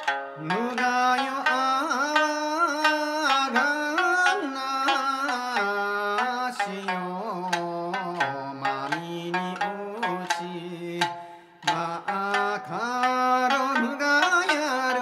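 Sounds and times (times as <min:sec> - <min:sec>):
plucked lute notes: 0:00.0 - 0:15.0
man singing folk song: 0:00.4 - 0:15.0.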